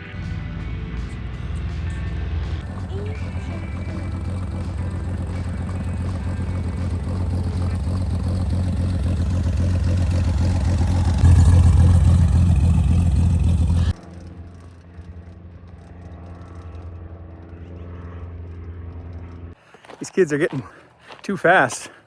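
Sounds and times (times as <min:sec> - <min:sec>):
vehicle engine running: 0:00.0 - 0:20.0
road noise: 0:00.0 - 0:22.0.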